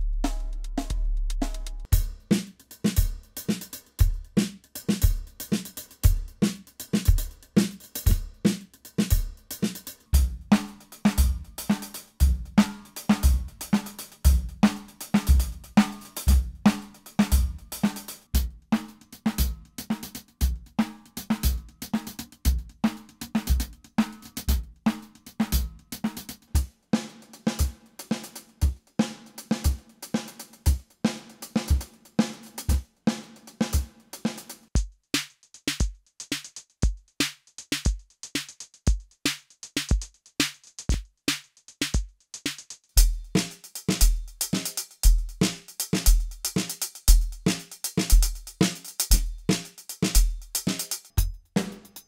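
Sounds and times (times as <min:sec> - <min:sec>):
electronic drum groove: 0:00.0 - 0:52.0.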